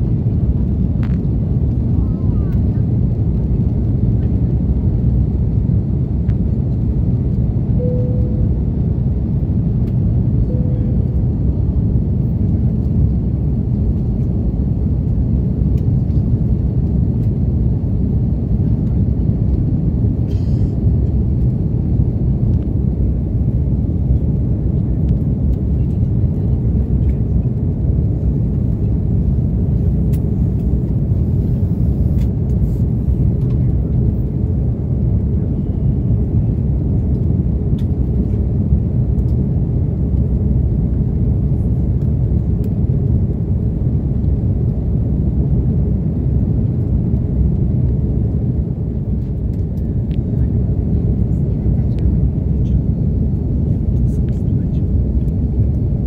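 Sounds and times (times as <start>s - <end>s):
airplane cabin engine and airflow noise: 0.0s - 56.0s.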